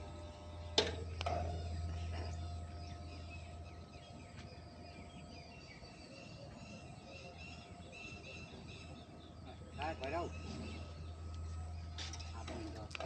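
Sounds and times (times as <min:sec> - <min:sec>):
birds chirping and twittering: 0:00.0 - 0:13.0
faint low hum: 0:00.0 - 0:13.0.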